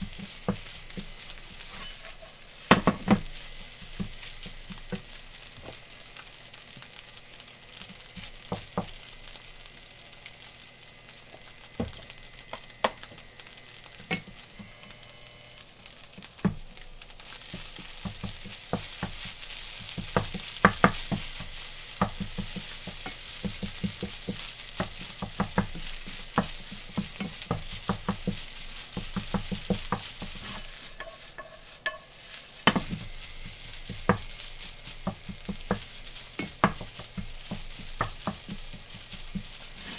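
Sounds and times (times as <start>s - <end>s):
rice sizzling in frying pan: 0.0s - 39.9s.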